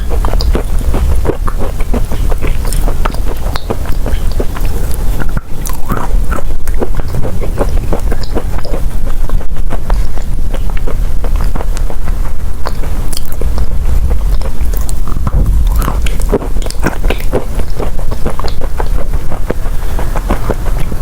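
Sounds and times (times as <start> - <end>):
chewing chalk crunches: 0.0 - 21.0
steady low rumble: 0.0 - 21.0.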